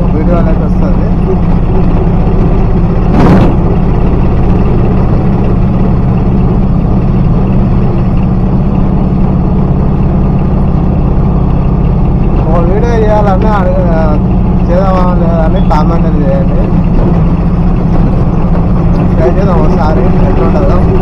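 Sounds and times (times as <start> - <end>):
auto rickshaw engine running: 0.0 - 21.0.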